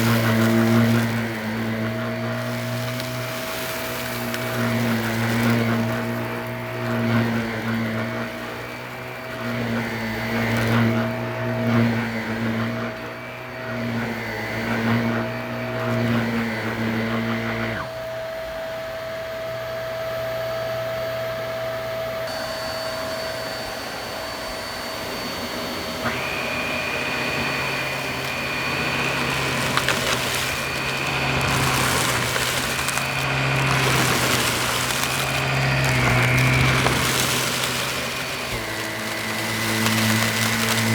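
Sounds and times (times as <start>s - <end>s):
vacuum cleaner running over carpet: 0.0s - 40.9s.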